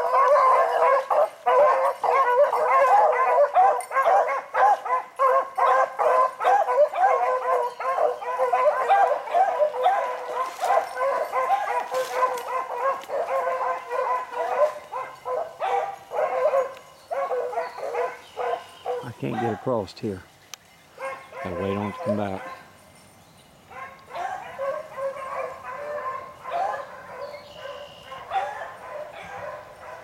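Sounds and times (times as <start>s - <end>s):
dogs baying: 0.0s - 20.0s, 21.0s - 22.8s, 23.7s - 30.0s.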